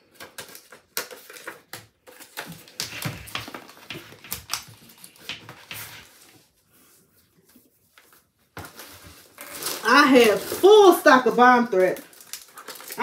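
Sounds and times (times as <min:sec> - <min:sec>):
rustling: 0:00.5 - 0:13.0.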